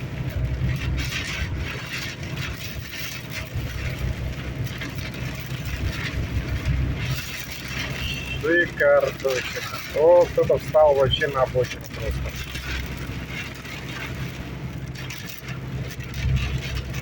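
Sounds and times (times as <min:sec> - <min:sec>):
road and engine rumble: 0:00.0 - 0:17.0
wind and rain hissing on car: 0:00.0 - 0:17.0.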